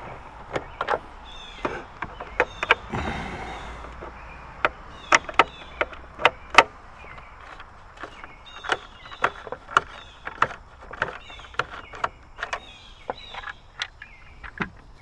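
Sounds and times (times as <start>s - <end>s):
hand tools clicking on bolts: 0.4s - 14.9s.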